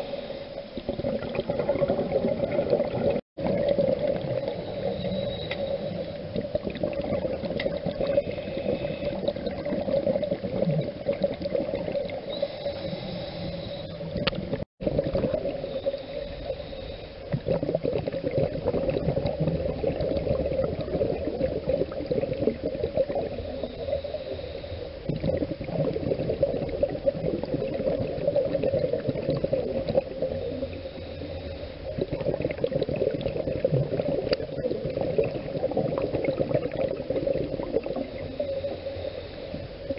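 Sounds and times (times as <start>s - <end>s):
regulator bubbles gurgling: 0.0s - 39.9s.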